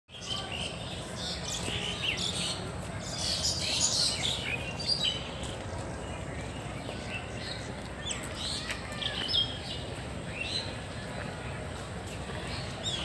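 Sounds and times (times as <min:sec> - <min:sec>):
birds chirping: 0:00.1 - 0:13.0
steady low background noise: 0:00.2 - 0:13.0.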